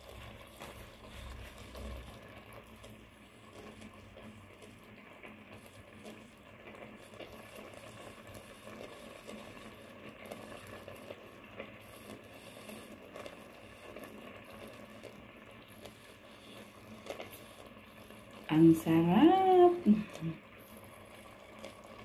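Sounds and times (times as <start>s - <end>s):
sauce bubbling and popping: 0.0s - 18.5s, 19.8s - 22.0s.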